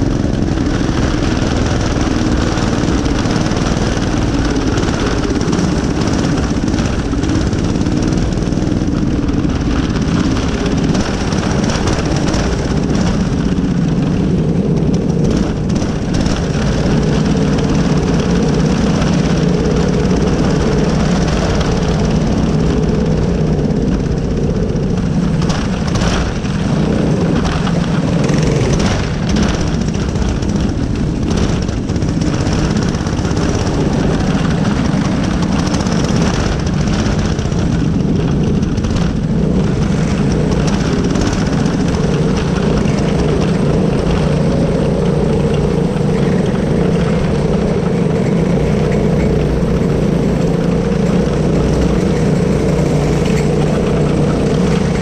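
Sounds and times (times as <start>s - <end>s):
small kart engine at high revs: 0.0s - 55.0s.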